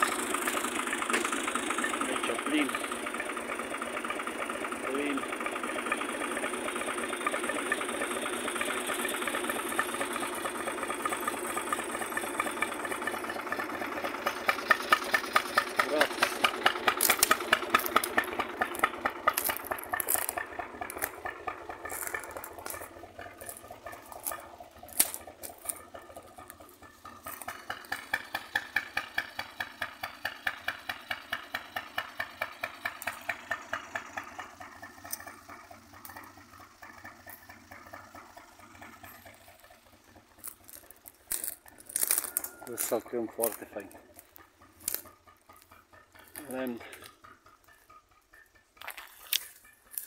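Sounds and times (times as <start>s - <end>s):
tractor engine idling: 0.0s - 50.0s.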